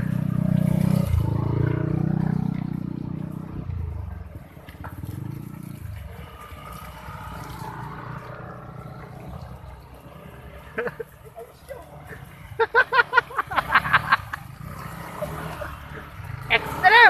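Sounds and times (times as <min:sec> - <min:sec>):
distant scooters running: 0:00.0 - 0:17.0
scooter engine running: 0:00.0 - 0:17.0.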